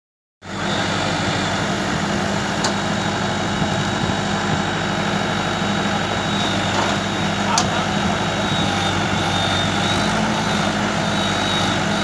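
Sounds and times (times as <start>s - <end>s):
tractor diesel engine running: 0.4s - 12.0s.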